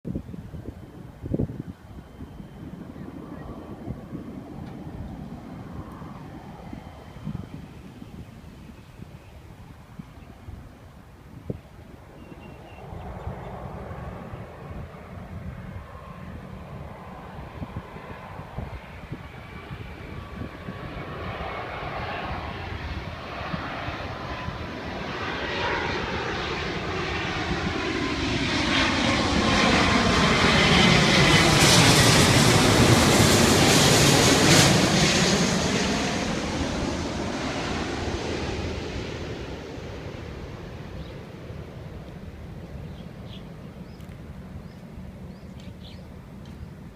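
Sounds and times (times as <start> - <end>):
jet airliner passing overhead: 0.1 - 46.9.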